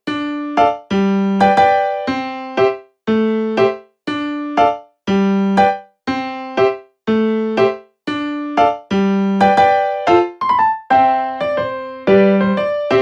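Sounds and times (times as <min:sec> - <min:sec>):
bouncy keyboard music: 0:00.0 - 0:13.0.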